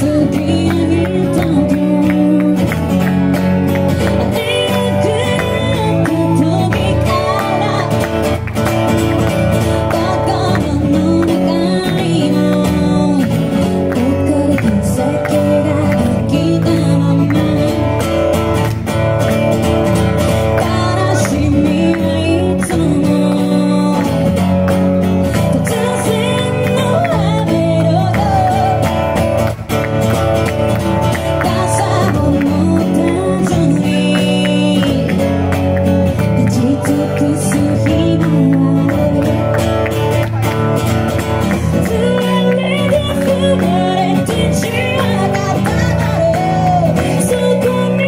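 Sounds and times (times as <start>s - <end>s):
woman singing into a microphone: 0.0s - 8.6s, 9.2s - 18.8s, 20.2s - 29.2s, 30.7s - 40.0s, 41.5s - 48.0s
acoustic guitar strumming: 0.0s - 48.0s.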